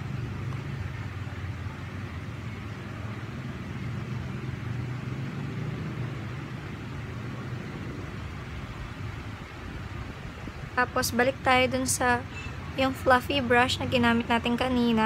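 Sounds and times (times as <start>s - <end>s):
low background rumble with hiss: 0.0s - 15.0s.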